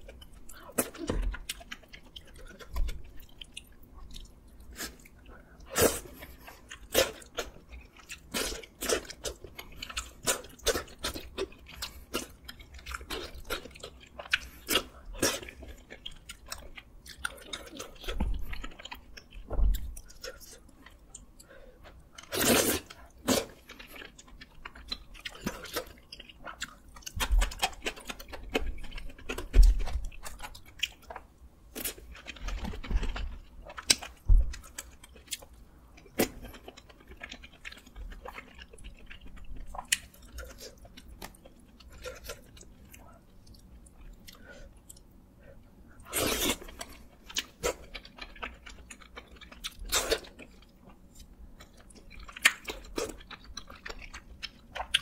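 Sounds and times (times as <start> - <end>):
person chewing rice cakes: 0.0 - 55.0.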